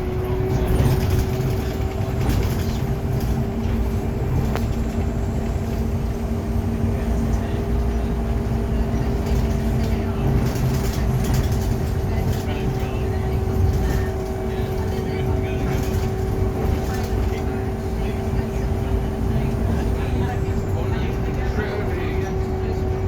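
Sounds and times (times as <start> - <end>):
bus engine rumble: 0.0 - 23.0
drivetrain whine: 0.0 - 23.0.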